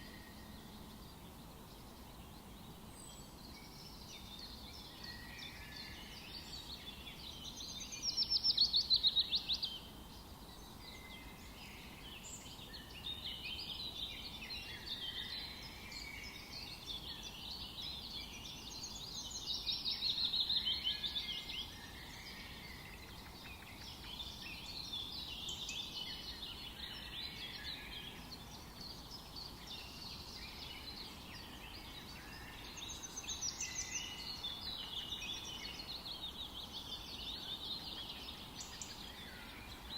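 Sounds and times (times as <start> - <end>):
birds chirping and trilling: 0.0 - 39.9
faint steady hiss: 0.0 - 39.9.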